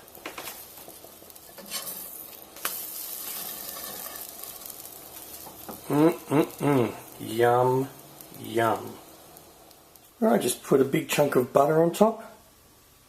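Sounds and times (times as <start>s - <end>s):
batter sizzling in frying pan: 0.0s - 13.0s.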